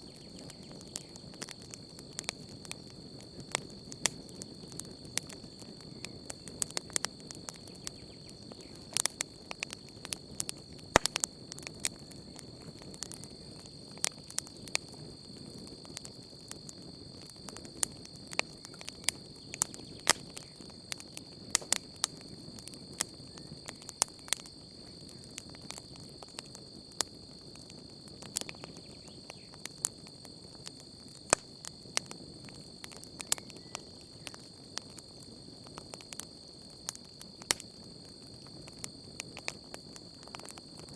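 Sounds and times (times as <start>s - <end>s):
campfire crackling and popping: 0.0s - 40.9s
crickets trilling: 0.0s - 40.9s.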